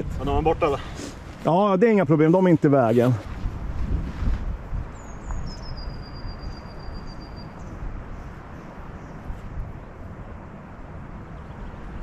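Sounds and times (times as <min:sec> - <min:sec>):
wind buffeting microphone: 0:00.0 - 0:01.5, 0:03.1 - 0:12.0.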